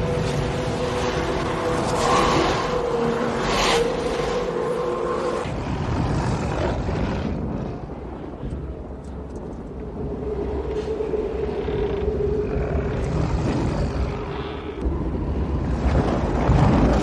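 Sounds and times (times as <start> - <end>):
strong wind rushing and rumbling: 0.0 - 17.0.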